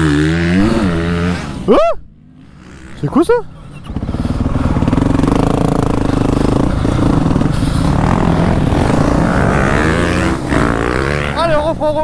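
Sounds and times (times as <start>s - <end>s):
dirt bike engine running: 2.3s - 12.0s.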